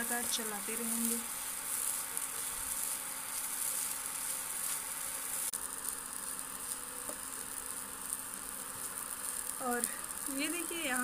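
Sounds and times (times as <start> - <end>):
paste sizzling in a pan: 0.0 - 11.0.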